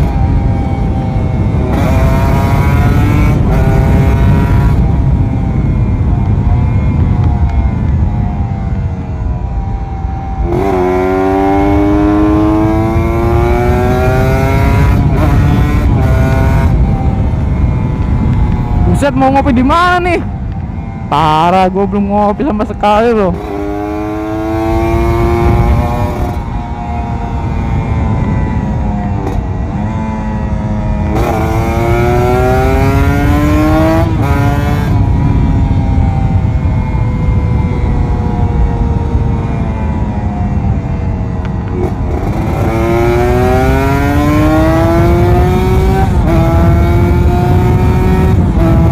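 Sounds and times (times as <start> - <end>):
motorcycle engine accelerating: 0.0 - 48.9
wind rushing over microphone: 0.0 - 48.9.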